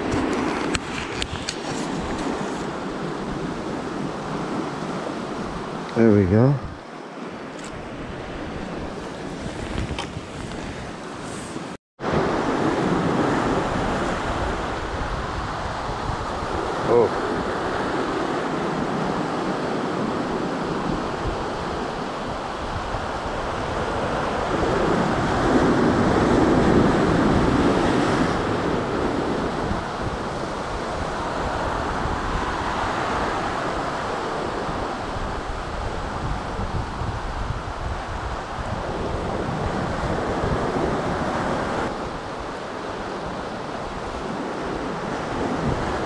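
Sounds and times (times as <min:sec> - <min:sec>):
surf washing over rocks: 0:00.0 - 0:46.0
wind buffeting microphone: 0:00.0 - 0:46.0.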